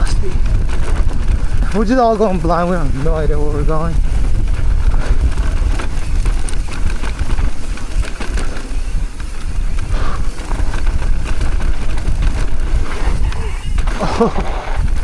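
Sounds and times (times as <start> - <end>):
bike rattling: 0.0 - 15.0
tyres skidding on dirt: 0.0 - 15.0
wind rumble on microphone: 0.0 - 15.0.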